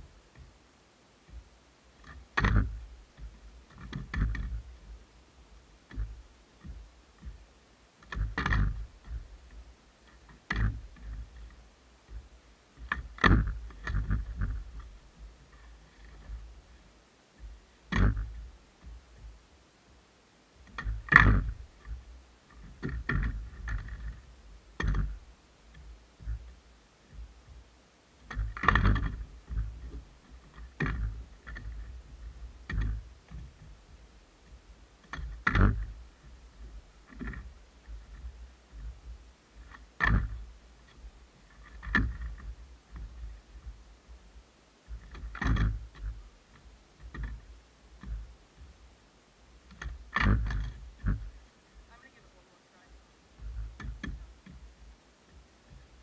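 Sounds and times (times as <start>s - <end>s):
skateboard wheel rumble: 1.3s - 19.5s, 20.6s - 48.9s, 49.6s - 52.4s.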